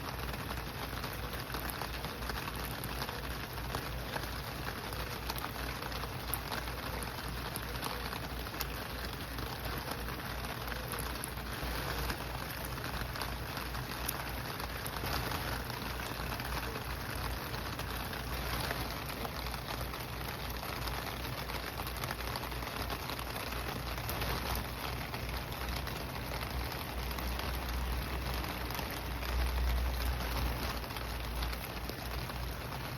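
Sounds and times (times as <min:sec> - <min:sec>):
rain falling on leaves: 0:00.0 - 0:32.9.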